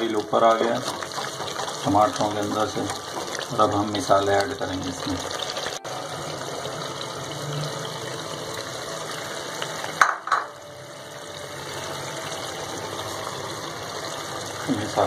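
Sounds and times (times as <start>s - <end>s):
sauce sizzling in oil: 0.0s - 15.0s.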